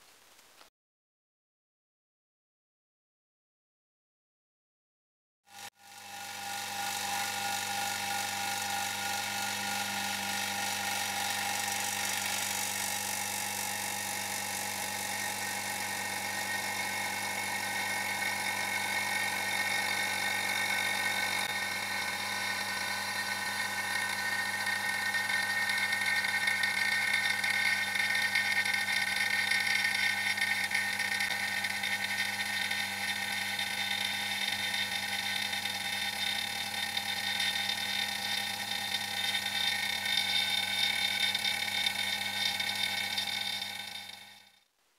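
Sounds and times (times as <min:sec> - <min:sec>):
vacuum pump whining: 0:05.5 - 0:44.6.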